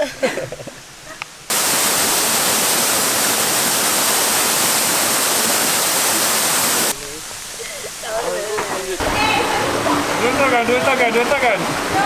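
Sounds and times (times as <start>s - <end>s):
waterfall roaring: 1.5s - 12.0s.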